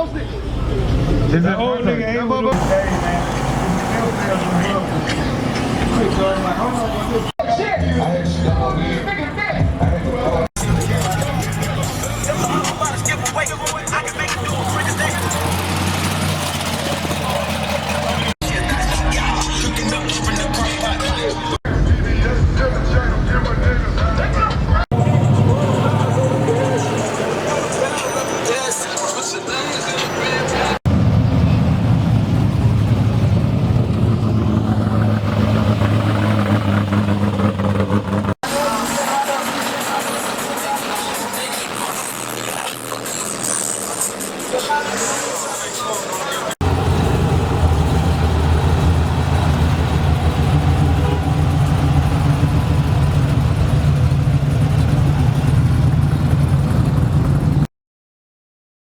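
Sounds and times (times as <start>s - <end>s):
car engine rumbling: 0.0s - 7.4s, 8.3s - 45.8s, 46.5s - 57.7s.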